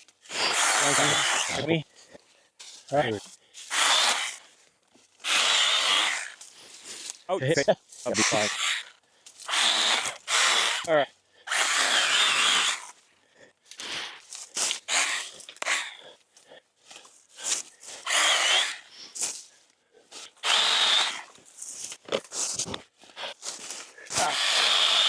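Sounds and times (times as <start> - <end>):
battery chainsaw cutting brush: 0.2 - 1.8, 2.6 - 4.6, 5.2 - 13.0, 13.8 - 16.0, 17.0 - 19.5, 20.1 - 25.0.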